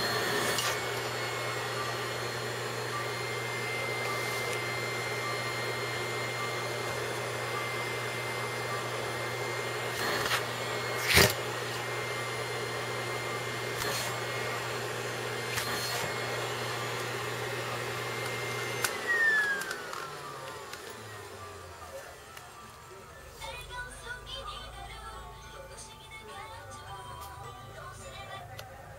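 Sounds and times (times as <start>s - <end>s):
vacuum cleaner whining: 0.0s - 24.7s.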